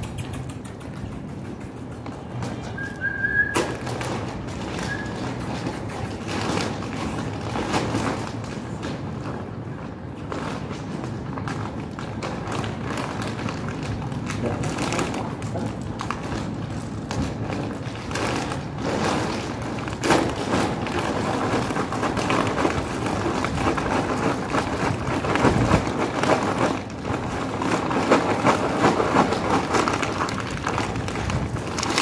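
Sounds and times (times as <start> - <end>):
steady noisy background: 0.0 - 32.0.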